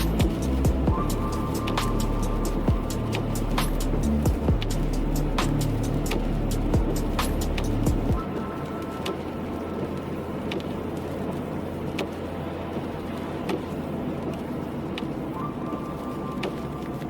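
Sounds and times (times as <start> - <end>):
car road and engine noise: 0.0 - 17.0
low hum: 0.0 - 17.0.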